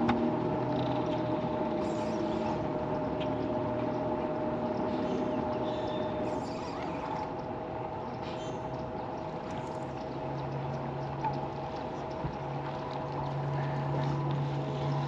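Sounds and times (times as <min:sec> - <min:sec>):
lower hum: 0:00.0 - 0:15.0
water noise: 0:00.0 - 0:15.0.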